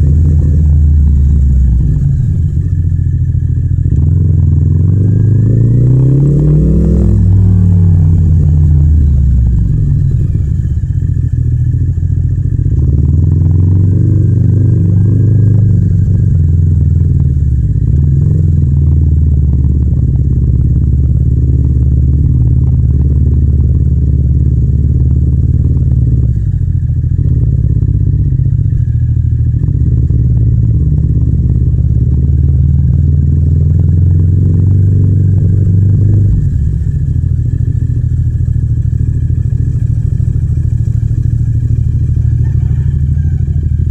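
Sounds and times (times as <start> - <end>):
motorcycle engine and exhaust running: 0.0 - 43.9.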